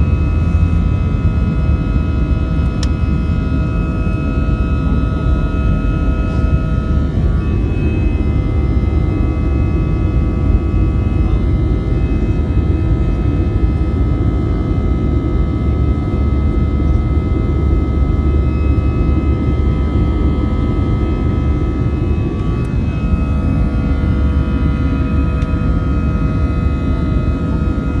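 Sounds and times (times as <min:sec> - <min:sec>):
jet engine whine: 0:00.0 - 0:28.0
jet engines rumbling: 0:00.0 - 0:28.0.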